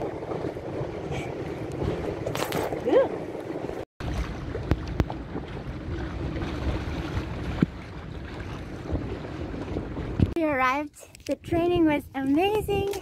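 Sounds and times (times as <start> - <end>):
water rushing around a boat: 0.0 - 11.2
wind rumbling on microphone: 0.0 - 13.0.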